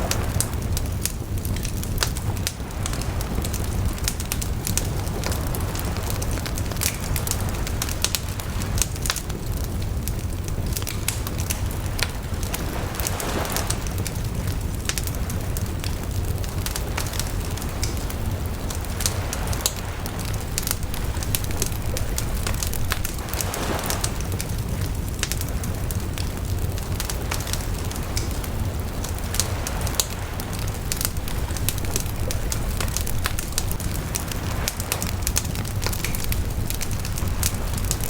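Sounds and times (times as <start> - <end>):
bonfire crackling and popping: 0.0 - 38.0
low rumble of flame: 0.0 - 38.0.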